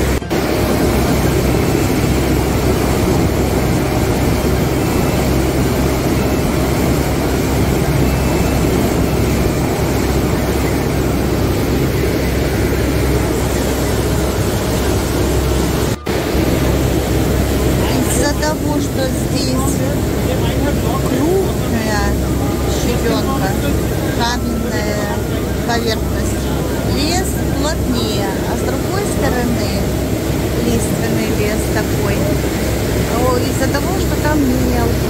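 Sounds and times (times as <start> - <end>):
boat engine droning: 0.0 - 35.0
rushing water wake: 0.0 - 35.0.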